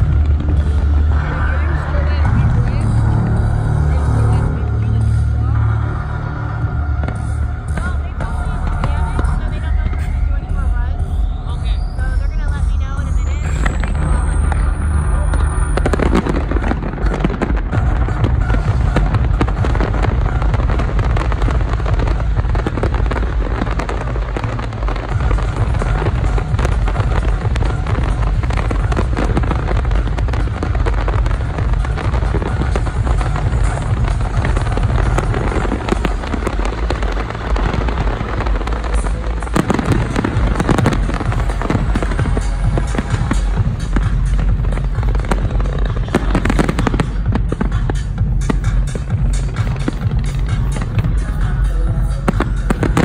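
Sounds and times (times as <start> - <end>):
fireworks crackling and popping: 0.0 - 53.0
loud music with heavy bass: 0.0 - 53.0.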